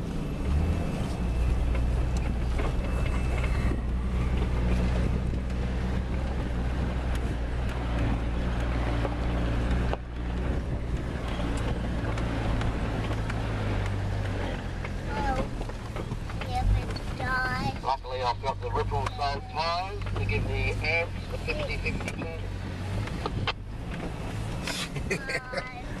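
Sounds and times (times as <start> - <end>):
car engine humming: 0.0 - 26.0
road and wind noise: 0.0 - 26.0.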